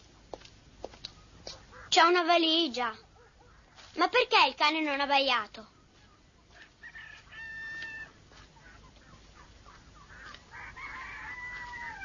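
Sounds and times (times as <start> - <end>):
chickens clucking: 0.1 - 2.2, 3.0 - 4.2, 5.6 - 12.0.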